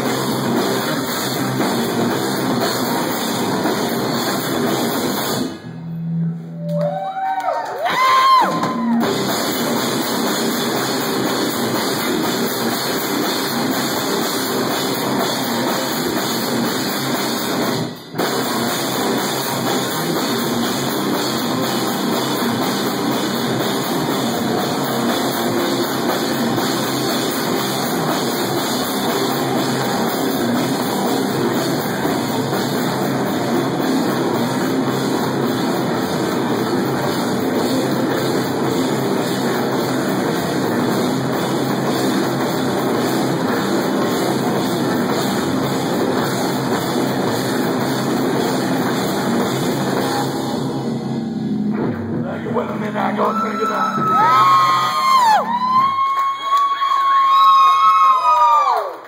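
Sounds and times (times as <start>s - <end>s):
metal band playing loud: 0.0s - 5.7s, 7.9s - 55.8s
drum kit: 0.0s - 5.9s, 7.8s - 56.1s
distorted electric guitar: 0.0s - 6.8s, 8.0s - 55.8s.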